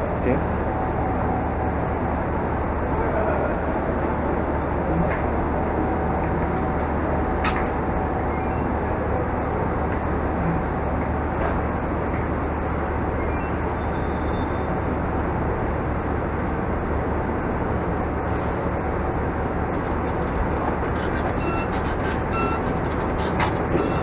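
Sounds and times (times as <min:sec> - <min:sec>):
passenger train rumbling: 0:00.0 - 0:24.0.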